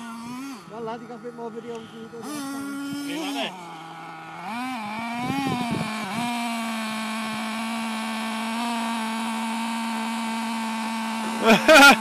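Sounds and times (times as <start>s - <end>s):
small engine revving: 0.0s - 12.0s.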